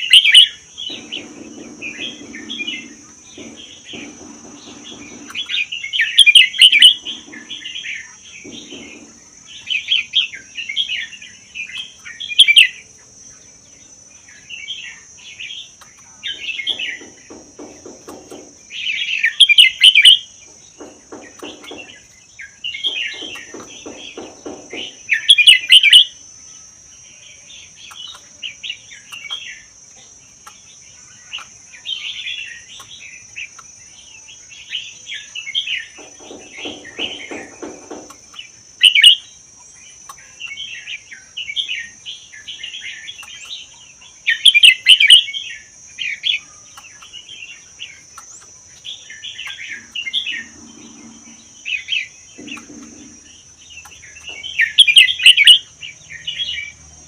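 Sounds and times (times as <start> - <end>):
bird chirping song: 0.0 - 57.0.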